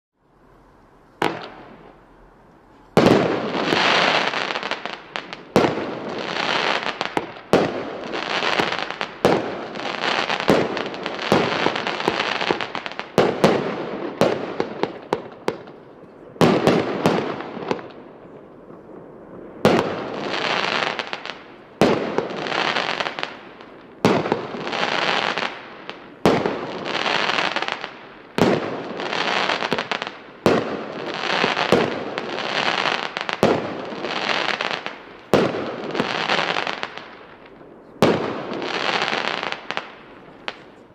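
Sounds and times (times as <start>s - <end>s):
firework bangs: 1.2s - 2.0s, 2.9s - 40.9s.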